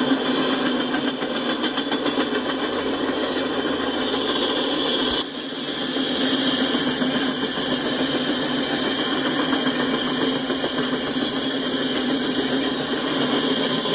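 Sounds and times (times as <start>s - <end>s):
freight cars rumbling on rails: 0.0s - 13.9s.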